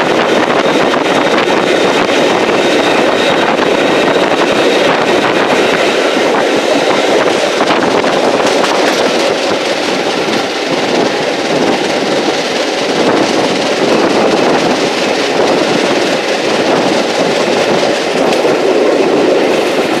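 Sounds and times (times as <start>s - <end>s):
train wheels rolling over rails: 0.0s - 20.0s.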